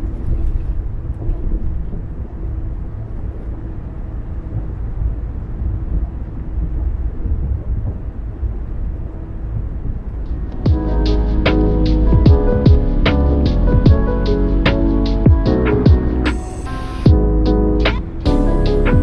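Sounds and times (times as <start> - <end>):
faint engine drone: 0.0 - 19.0
tyre and road noise: 0.0 - 19.0.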